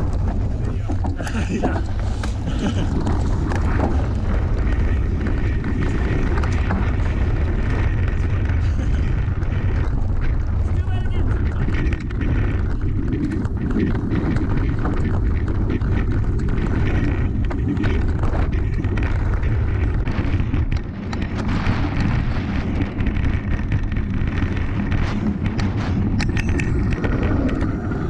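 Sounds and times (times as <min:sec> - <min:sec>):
bike clicks and rattles: 0:00.0 - 0:28.0
bike tyres rumbling on dirt: 0:00.0 - 0:28.0
wind buffeting microphone: 0:00.0 - 0:28.0.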